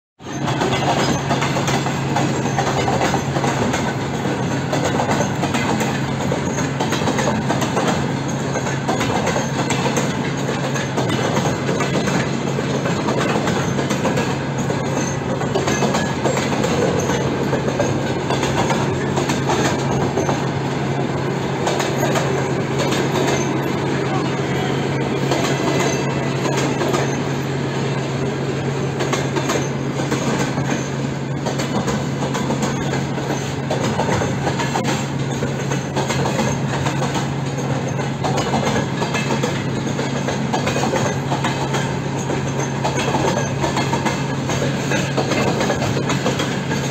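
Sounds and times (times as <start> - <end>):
freight train rumbling past: 0.2 - 46.9
wheels clattering over rail joints: 0.2 - 46.9.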